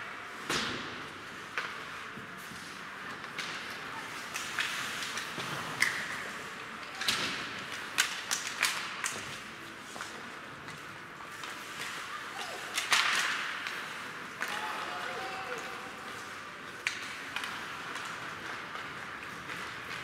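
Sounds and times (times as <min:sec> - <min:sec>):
hockey sticks and puck clacking: 0:00.1 - 0:20.0.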